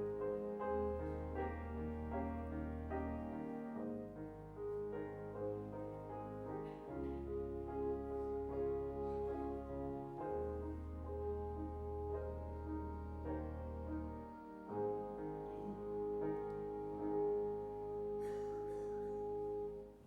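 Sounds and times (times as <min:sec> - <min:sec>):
slow keyboard music: 0:00.0 - 0:20.0.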